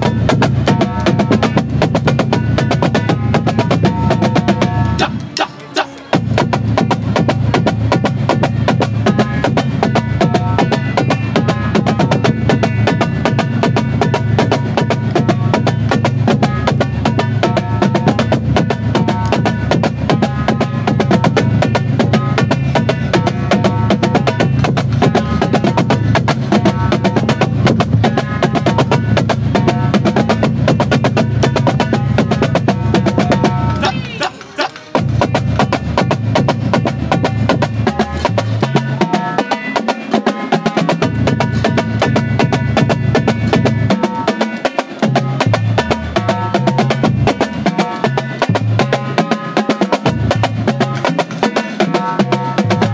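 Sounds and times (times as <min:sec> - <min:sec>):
marching drumline playing: 0:00.0 - 0:05.5, 0:06.1 - 0:52.9.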